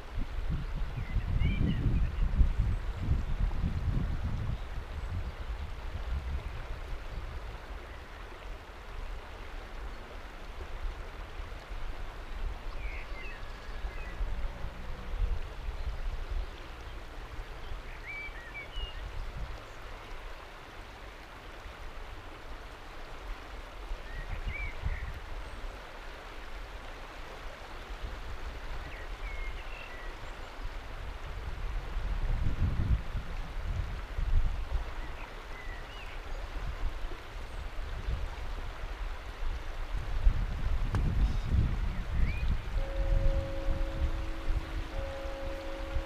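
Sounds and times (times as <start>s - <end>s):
shallow river flowing over rock: 0.0s - 46.0s.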